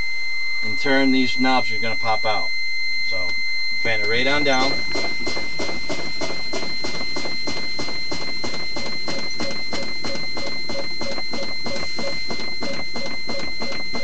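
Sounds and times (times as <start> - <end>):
pulsing warning buzzer: 0.0 - 14.0.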